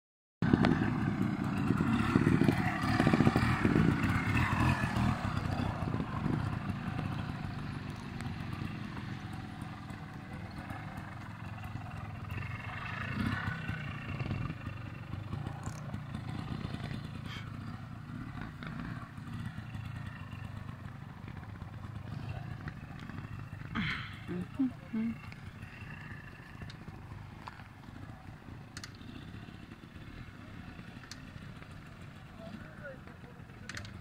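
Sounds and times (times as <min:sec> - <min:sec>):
motorcycle engine revving: 0:00.4 - 0:34.0.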